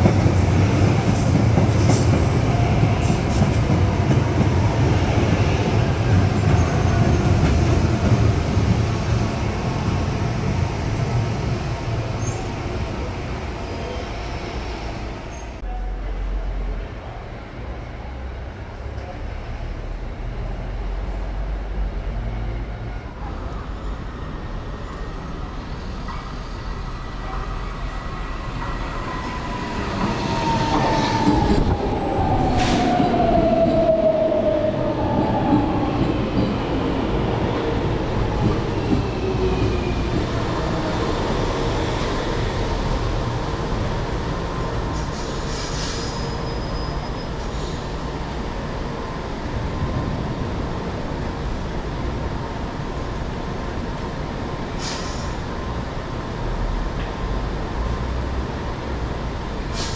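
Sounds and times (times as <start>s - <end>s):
metro train rumble: 0.0s - 59.9s.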